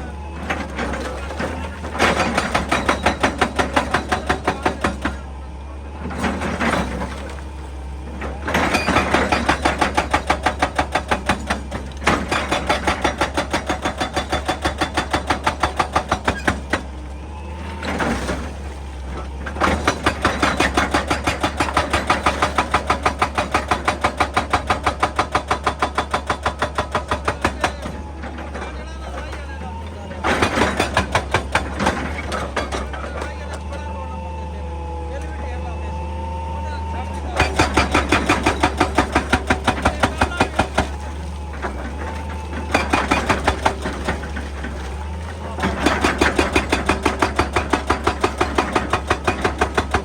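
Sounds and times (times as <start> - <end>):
excavator engine running: 0.0 - 50.0
hydraulic breaker pounding rock: 0.0 - 50.0.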